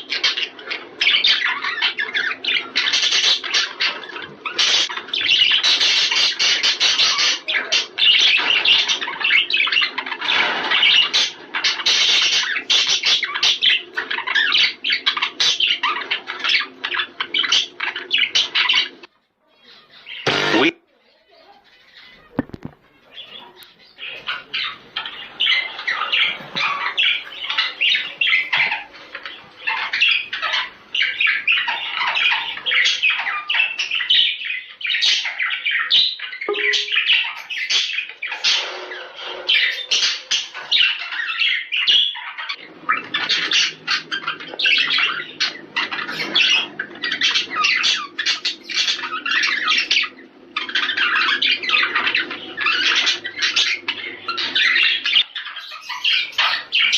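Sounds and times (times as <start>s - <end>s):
budgerigars chattering: 0.0s - 20.8s, 21.7s - 56.9s.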